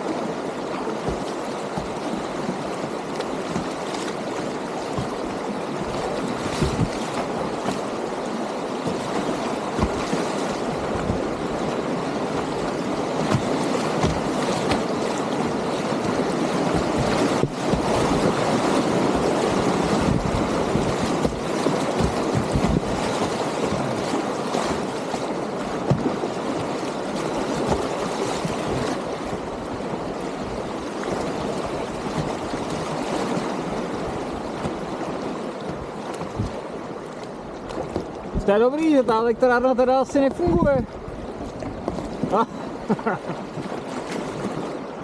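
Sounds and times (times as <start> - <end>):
whitewater rapids rushing: 0.0 - 45.0.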